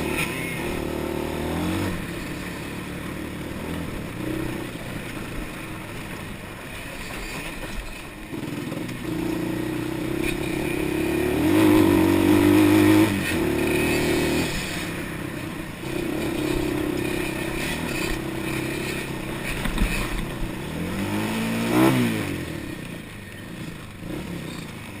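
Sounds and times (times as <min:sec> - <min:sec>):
off-road motorbike engine revving: 0:00.0 - 0:25.0.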